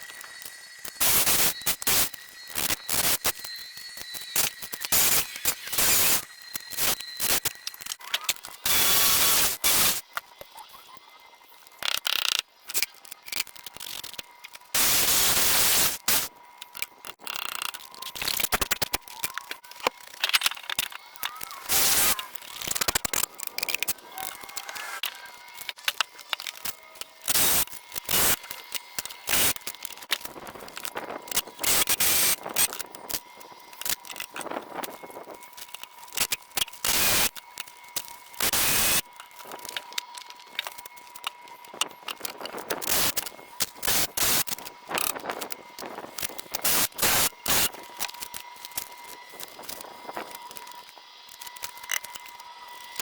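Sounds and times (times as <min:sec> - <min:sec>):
carpentry work noise: 0:00.0 - 0:53.0.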